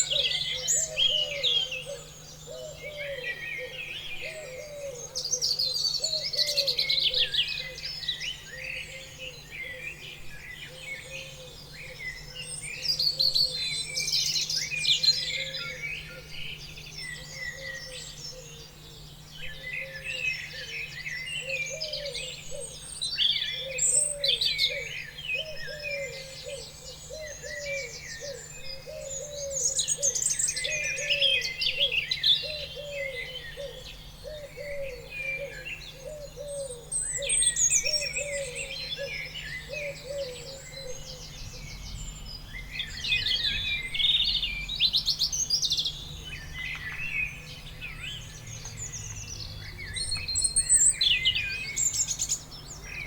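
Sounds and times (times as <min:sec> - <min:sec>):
songbirds singing and chirping: 0:00.0 - 0:53.0.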